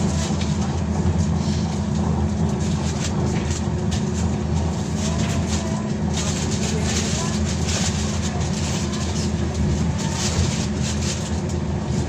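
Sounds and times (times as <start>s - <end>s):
trolleybus ride rumble: 0.0s - 12.0s.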